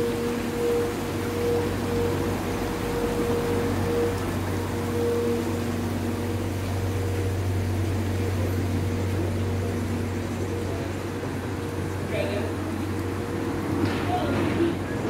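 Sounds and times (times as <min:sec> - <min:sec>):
boat engine humming: 0:00.0 - 0:15.0
higher engine drone: 0:00.0 - 0:15.0.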